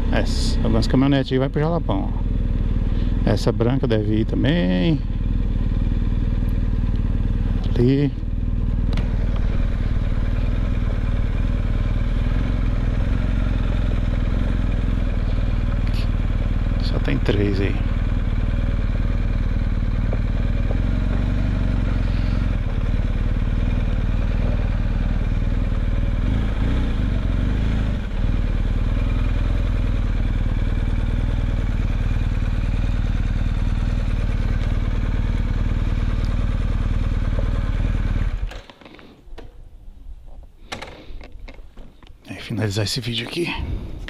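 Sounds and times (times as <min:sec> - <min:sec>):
motorcycle engine rumbling: 0:00.0 - 0:44.0.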